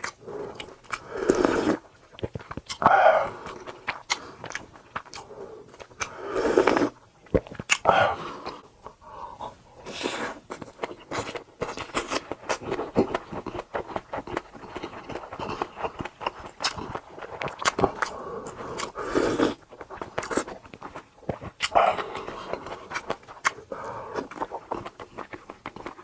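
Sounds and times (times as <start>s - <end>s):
wet chewing and biting: 0.0s - 8.6s, 10.4s - 26.0s
mouth clicks and smacks: 0.0s - 9.0s, 9.9s - 26.0s.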